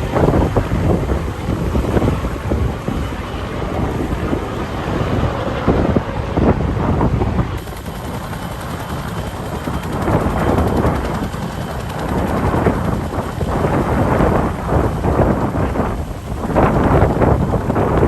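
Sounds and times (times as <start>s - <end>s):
helicopter rotors: 0.0s - 18.0s
wind gusts on microphone: 0.0s - 18.0s.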